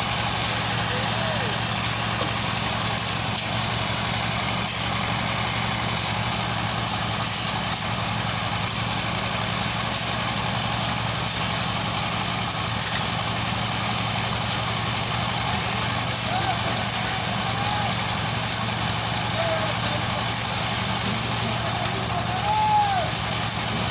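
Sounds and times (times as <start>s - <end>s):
heavy engine running: 0.0s - 23.9s.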